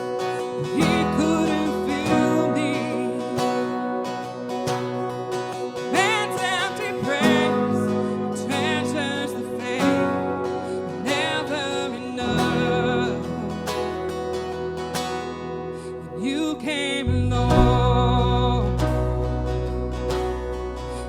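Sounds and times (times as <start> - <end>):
acoustic guitar: 0.0 - 21.0
sustained keyboard and bass: 0.0 - 21.0.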